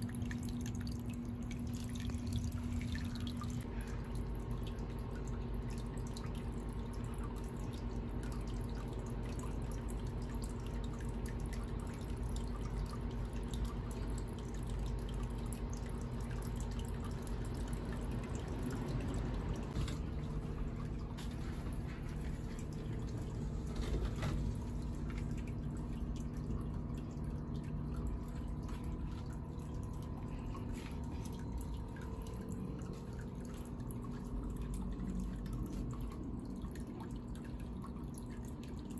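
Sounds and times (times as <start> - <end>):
fountain water trickling and dripping: 0.0 - 23.9, 24.5 - 38.9
faint steady hum: 0.0 - 38.9.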